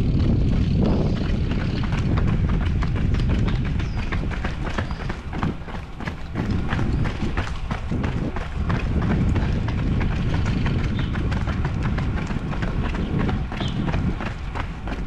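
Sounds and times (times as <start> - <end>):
running footsteps on pavement: 0.0 - 15.0
steady low rumble: 0.0 - 15.0.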